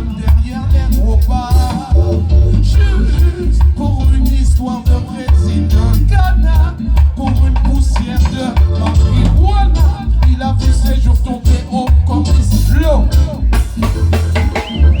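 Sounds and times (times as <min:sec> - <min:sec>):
heavy pulsing bass line: 0:00.0 - 0:15.0
live reggae band playing: 0:00.0 - 0:15.0.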